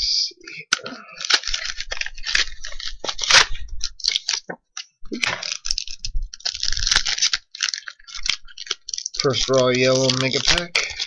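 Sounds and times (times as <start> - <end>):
foil wrapper crinkling and tearing: 0.7 - 11.0.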